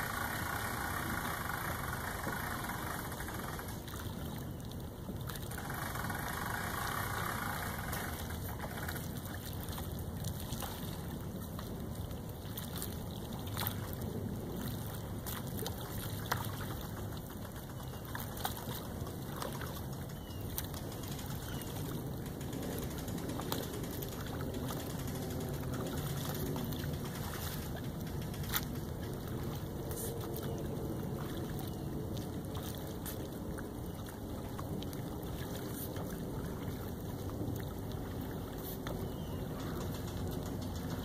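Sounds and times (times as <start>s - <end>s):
faint clicks or splashes: 0.0s - 41.0s
lake water: 0.0s - 41.0s
wind: 0.0s - 41.0s.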